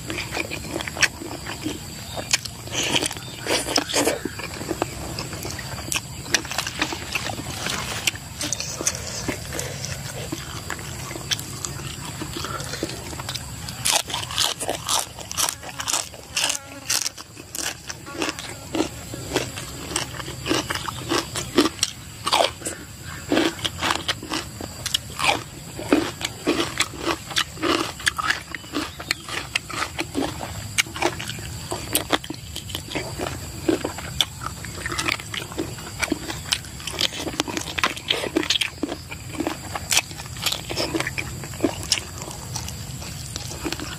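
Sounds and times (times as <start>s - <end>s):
crunchy chewing: 0.0s - 43.9s.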